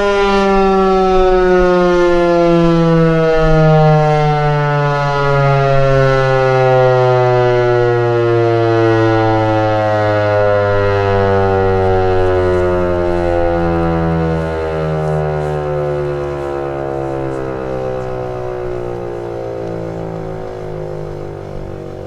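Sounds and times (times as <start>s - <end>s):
warning siren winding down: 0.0s - 22.0s.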